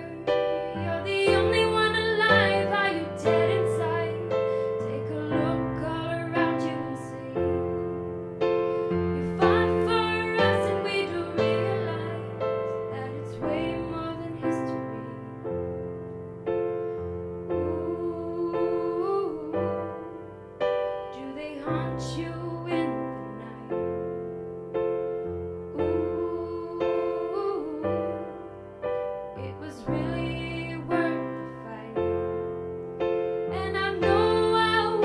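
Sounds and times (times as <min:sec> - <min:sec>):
slow gentle piano music: 0:00.0 - 0:35.0.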